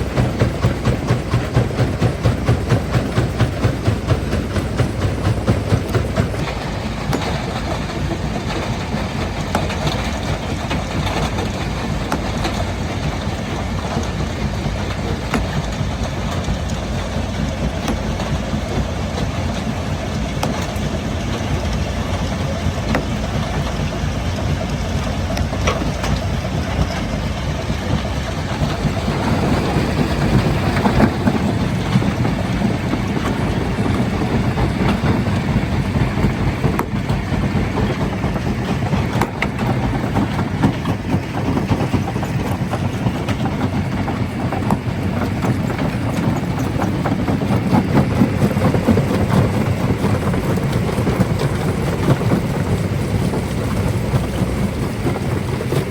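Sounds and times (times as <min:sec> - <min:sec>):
crusher rumble: 0:00.0 - 0:55.9
rock crusher thudding: 0:00.0 - 0:55.9.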